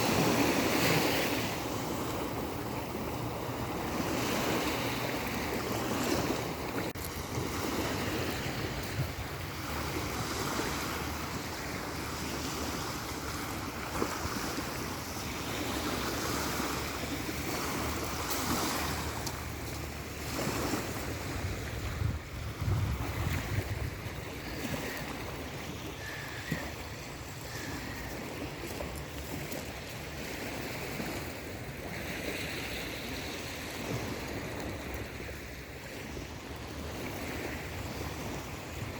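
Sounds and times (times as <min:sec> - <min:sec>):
waves breaking on shore: 0:00.0 - 0:38.9
wind on microphone: 0:00.0 - 0:38.9.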